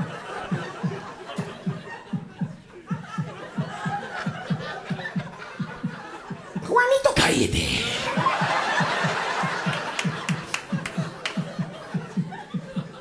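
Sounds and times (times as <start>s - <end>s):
audience laughing: 0.0s - 6.6s, 7.2s - 13.0s.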